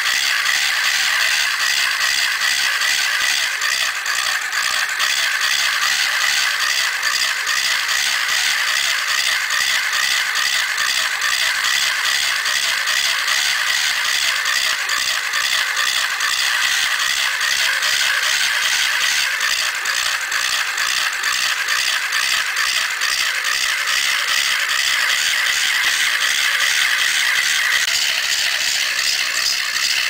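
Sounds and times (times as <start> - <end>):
electric motor with whirring gears: 0.0 - 30.0.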